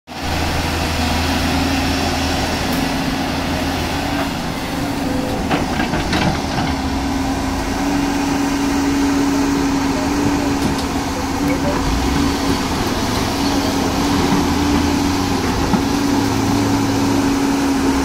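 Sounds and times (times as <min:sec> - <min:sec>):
excavator diesel engine running: 0:00.1 - 0:18.0.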